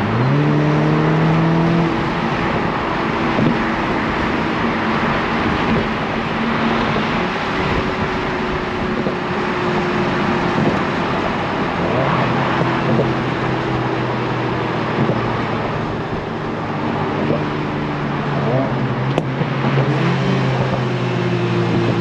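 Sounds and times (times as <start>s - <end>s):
car engine running: 0.0s - 22.0s
tyre and wind noise: 0.0s - 22.0s.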